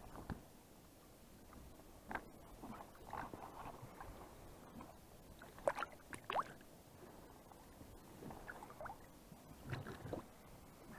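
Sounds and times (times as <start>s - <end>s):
soft water splashes: 2.0s - 10.9s.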